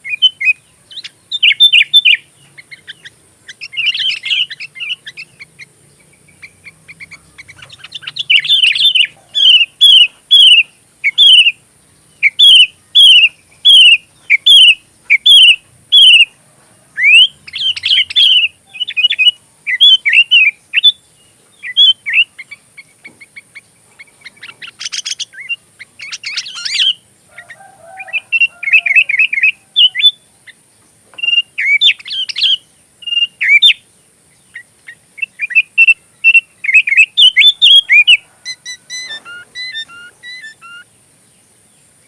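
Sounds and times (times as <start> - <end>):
bird singing chattering phrases: 0.0 - 42.0.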